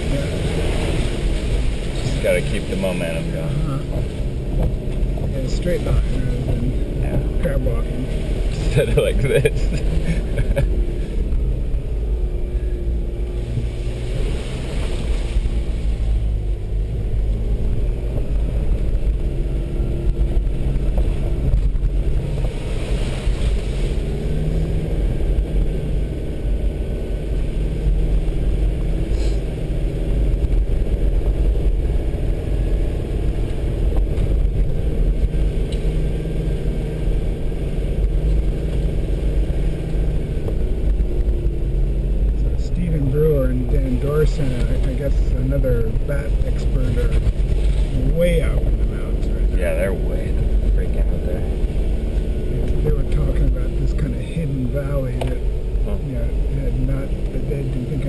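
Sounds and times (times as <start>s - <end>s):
low rumble of tyres and body: 0.0s - 58.0s
vehicle engine running under load: 0.0s - 58.0s.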